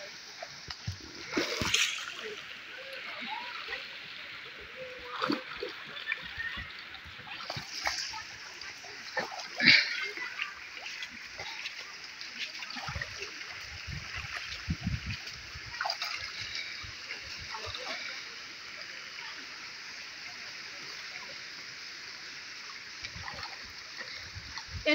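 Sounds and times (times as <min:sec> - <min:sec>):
water splashing: 0:00.0 - 0:19.4, 0:22.6 - 0:24.9
shallow river water flowing: 0:00.0 - 0:24.9.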